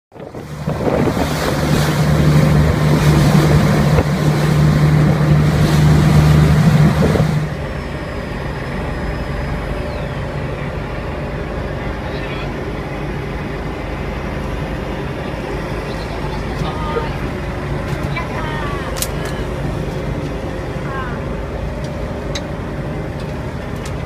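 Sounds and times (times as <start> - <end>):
boat engine drone: 0.1 - 24.0
rushing water: 0.1 - 24.0
wind: 0.1 - 24.0.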